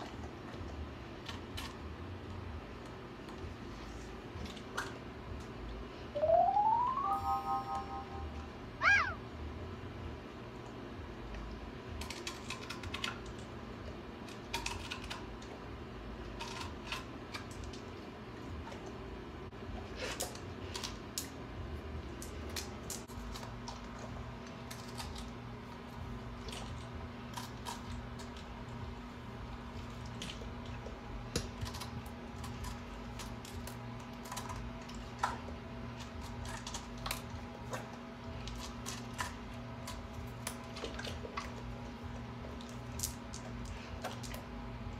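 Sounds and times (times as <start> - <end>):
dog chewing crunchy celery: 0.0 - 5.8, 10.5 - 44.9
steady low hum: 0.0 - 44.9.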